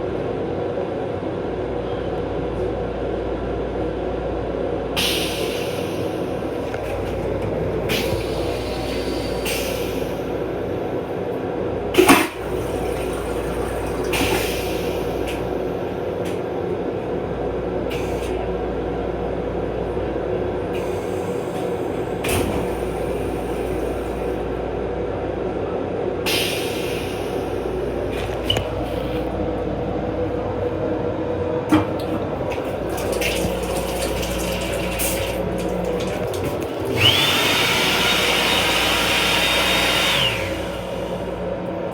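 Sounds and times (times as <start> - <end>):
electric railcar humming: 0.0 - 41.9.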